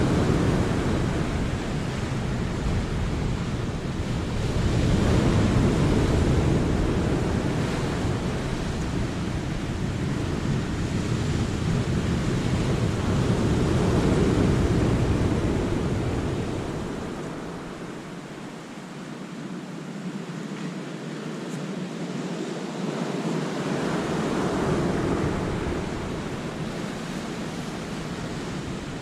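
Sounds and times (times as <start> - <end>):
wind buffeting microphone: 0.0 - 18.8, 21.8 - 29.0.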